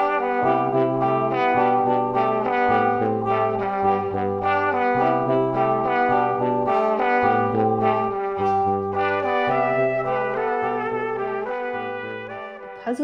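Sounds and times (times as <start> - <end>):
brass music: 0.0 - 13.0.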